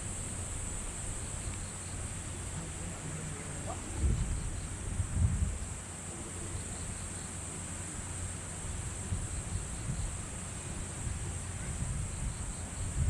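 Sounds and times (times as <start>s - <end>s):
wind rumble on microphone: 0.0s - 7.2s, 7.9s - 13.0s
steady high-pitched hiss: 0.0s - 13.0s.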